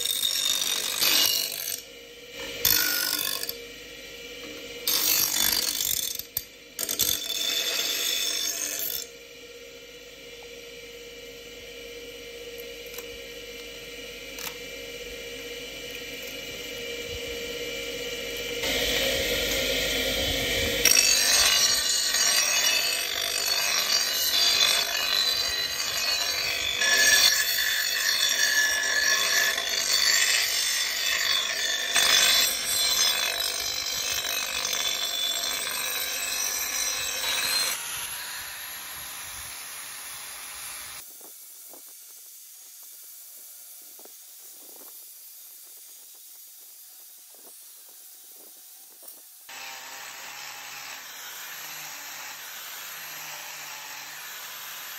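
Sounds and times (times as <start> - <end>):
power tool working steel: 0.0 - 54.9.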